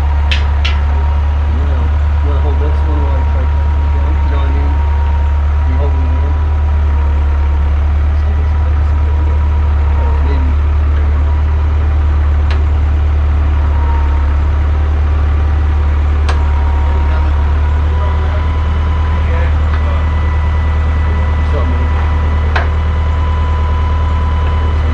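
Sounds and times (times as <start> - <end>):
engine running with deep rumble: 0.0 - 24.9.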